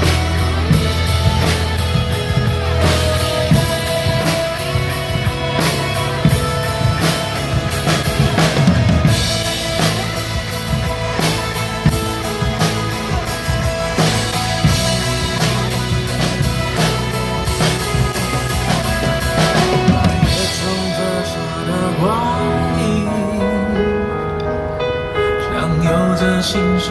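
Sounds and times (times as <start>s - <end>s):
drum kit playing groove: 0.0s - 22.6s
pop song backing music: 0.0s - 26.9s.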